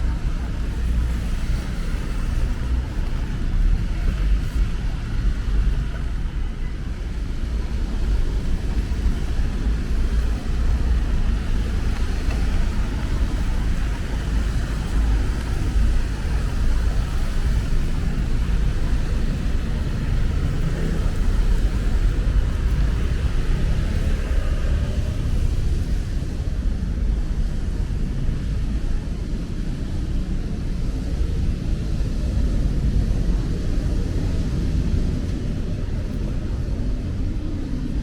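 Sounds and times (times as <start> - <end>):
city traffic rumble: 0.0 - 38.0
rain hiss: 0.0 - 38.0.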